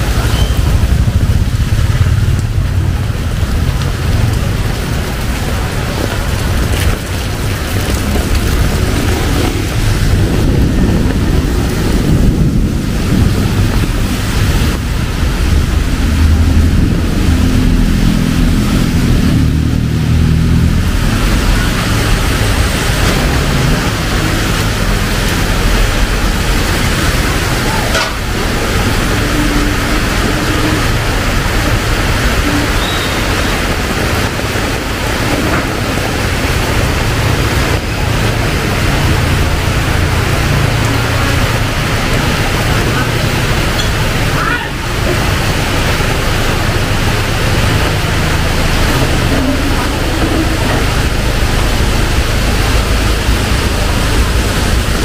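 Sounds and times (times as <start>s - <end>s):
deep rumble: 0.0s - 55.0s
heavy rain pouring: 0.0s - 55.0s.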